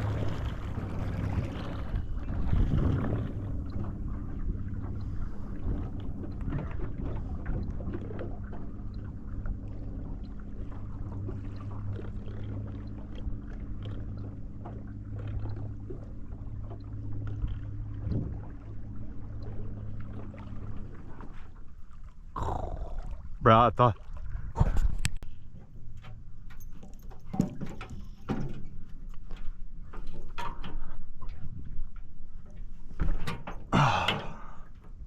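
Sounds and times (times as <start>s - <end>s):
boat motor humming: 0.0s - 35.0s.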